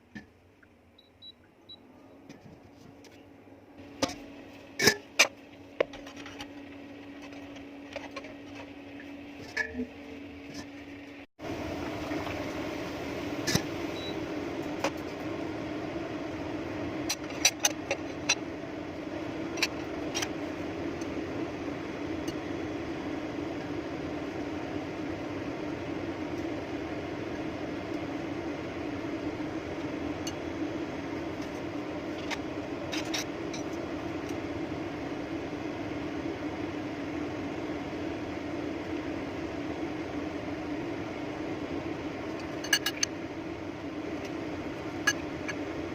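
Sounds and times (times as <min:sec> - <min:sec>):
low mechanical hum: 0:00.0 - 0:45.9.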